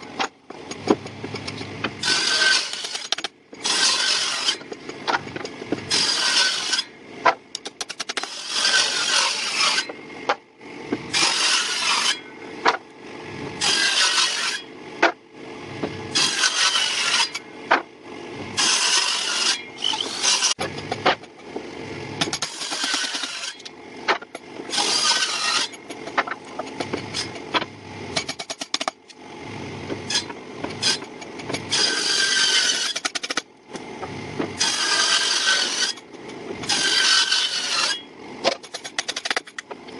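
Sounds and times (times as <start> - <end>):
hand tool scraping wood: 0.0 - 12.8, 13.6 - 15.2, 15.8 - 17.8, 18.6 - 21.6, 22.2 - 39.9.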